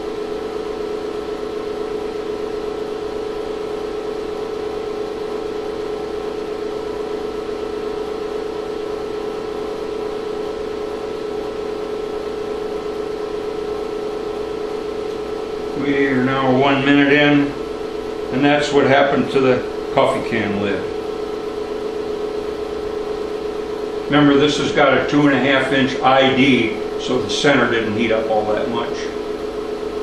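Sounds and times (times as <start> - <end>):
induction heater humming: 0.0 - 30.0.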